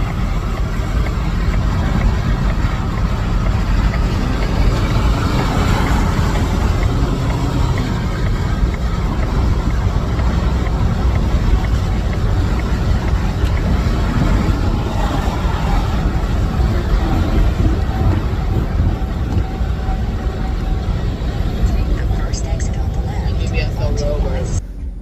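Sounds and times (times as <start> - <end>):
faint regular ticking: 0.0 - 24.6
vehicle rumbling on road: 0.0 - 25.0.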